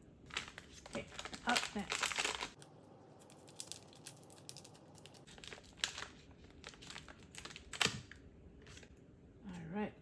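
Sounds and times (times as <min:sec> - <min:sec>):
wrapper crinkling and crackling: 0:00.2 - 0:08.9.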